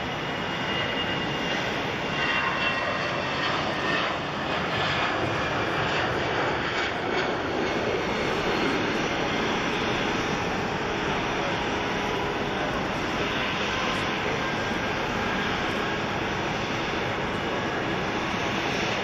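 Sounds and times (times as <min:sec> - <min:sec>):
jet engines roaring at taxi power: 0:00.0 - 0:19.0.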